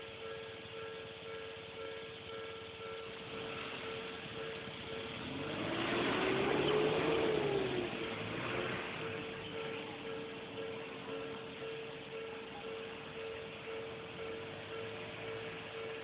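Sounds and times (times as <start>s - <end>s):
level-crossing warning bell: 0.0s - 16.0s
train passing: 0.0s - 16.0s.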